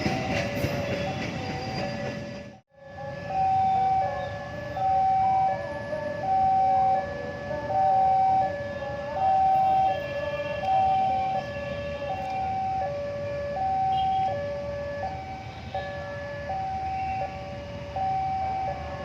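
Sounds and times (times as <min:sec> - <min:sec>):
traffic rumble: 0:02.8 - 0:19.0
two-tone warning alarm: 0:02.8 - 0:19.0.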